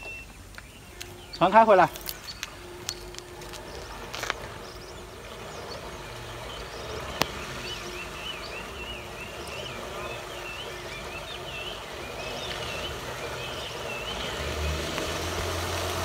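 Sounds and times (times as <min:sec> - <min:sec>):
bird chirping: 0:00.0 - 0:16.0
low hum: 0:00.0 - 0:16.0.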